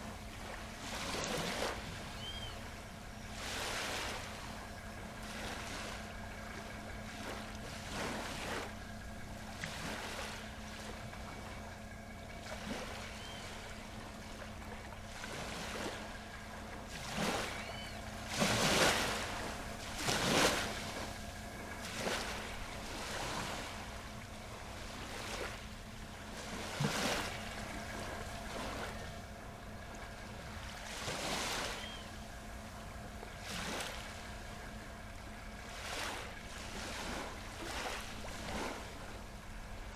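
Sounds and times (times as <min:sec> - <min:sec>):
steady low hum: 0:00.0 - 0:39.9
waves splashing: 0:00.0 - 0:39.9.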